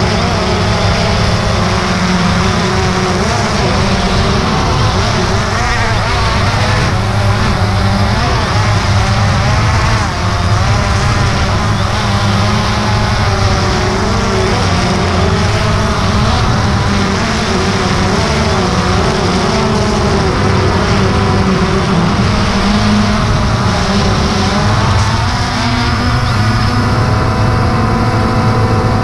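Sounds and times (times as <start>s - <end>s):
drone propellers whirring: 0.0s - 29.0s.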